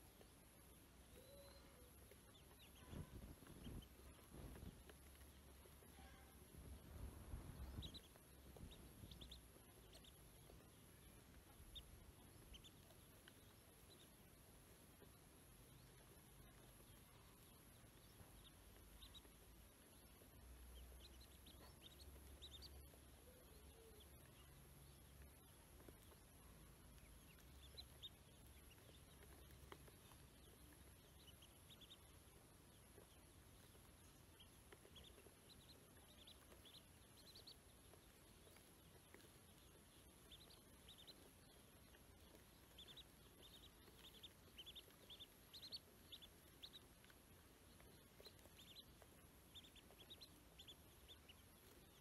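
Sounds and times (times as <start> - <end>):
ducklings peeping: 0.0 - 52.0.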